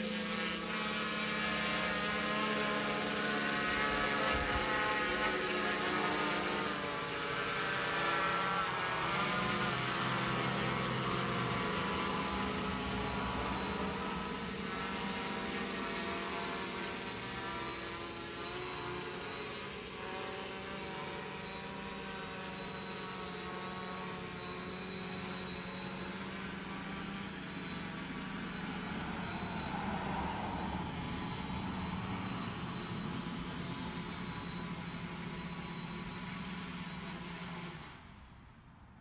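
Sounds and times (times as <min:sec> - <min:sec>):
quadcopter propellers whirring: 0:00.0 - 0:38.5.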